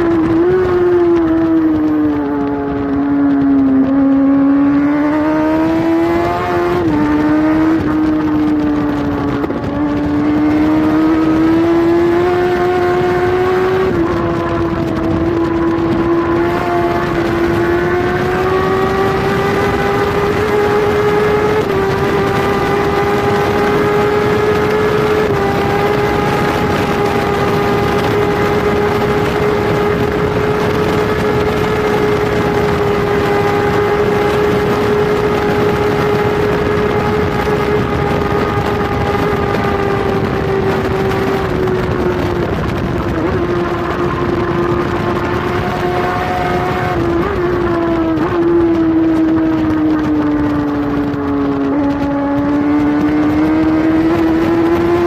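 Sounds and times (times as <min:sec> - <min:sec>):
motorcycle engine at high revs: 0:00.0 - 0:55.0
wind rush: 0:00.0 - 0:55.0.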